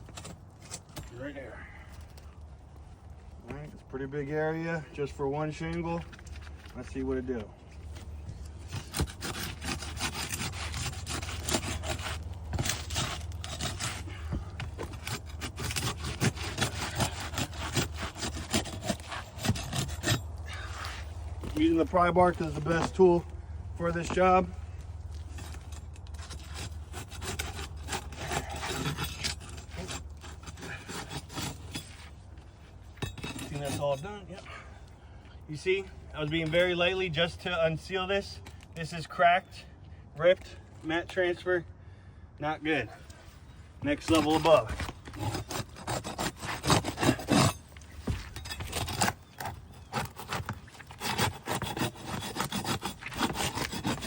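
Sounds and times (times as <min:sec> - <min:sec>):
pry bar scraping shingles: 0:00.0 - 0:02.5, 0:05.0 - 0:34.7, 0:42.7 - 0:54.0.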